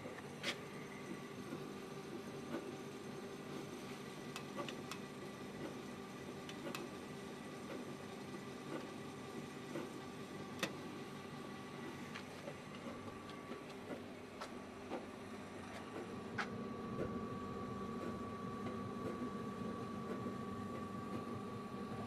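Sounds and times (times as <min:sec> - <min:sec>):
tablet press mechanical hum: 0:00.0 - 0:22.0.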